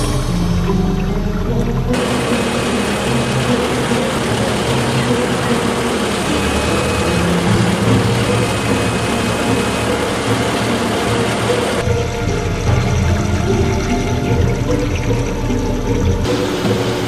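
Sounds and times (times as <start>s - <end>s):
lifting machine engine running: 0.0s - 17.0s.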